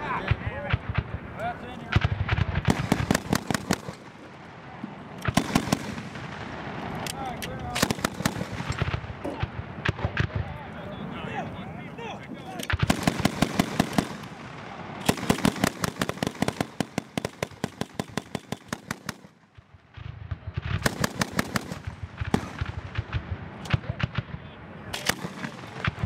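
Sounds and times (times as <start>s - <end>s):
distant automatic gunfire: 0.2s - 4.4s, 5.2s - 6.7s, 7.7s - 10.4s, 12.7s - 26.0s.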